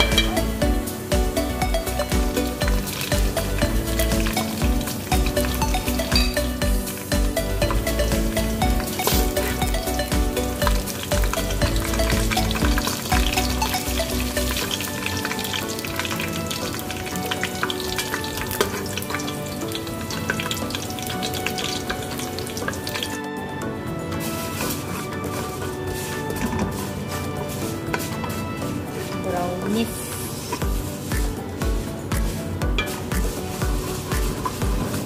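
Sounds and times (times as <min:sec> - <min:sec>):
onions sizzling in oil: 0:00.0 - 0:23.3, 0:24.0 - 0:35.0
wooden spatula stirring: 0:02.5 - 0:23.3, 0:23.9 - 0:35.0.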